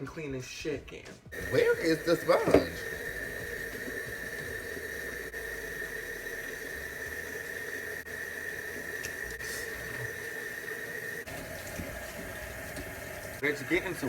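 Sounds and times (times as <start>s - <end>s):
steady hiss: 1.3s - 14.0s.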